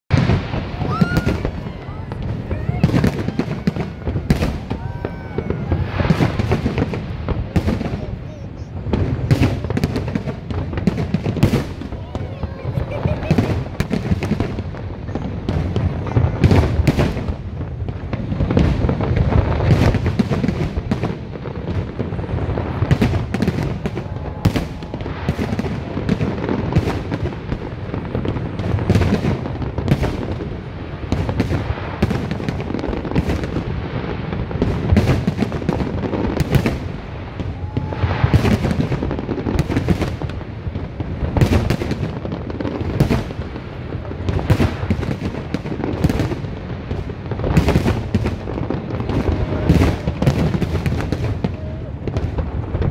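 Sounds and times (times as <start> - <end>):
fireworks bangs and crackles: 0.1 - 52.9.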